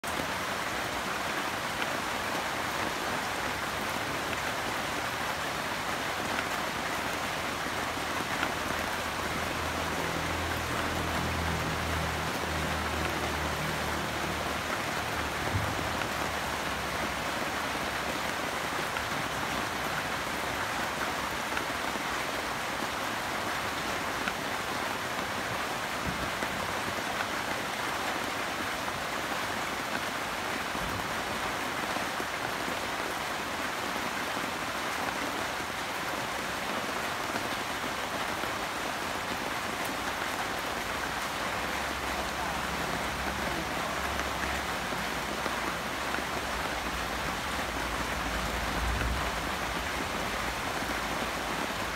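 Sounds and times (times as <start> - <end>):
rain falling on leaves: 0.0 - 51.9.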